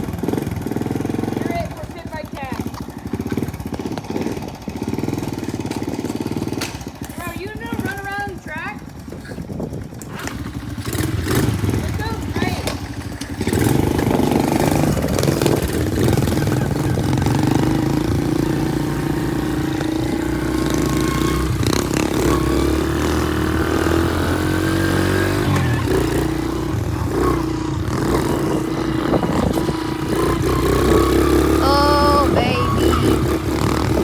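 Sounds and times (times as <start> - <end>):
pit bike engines revving: 0.0 - 34.0.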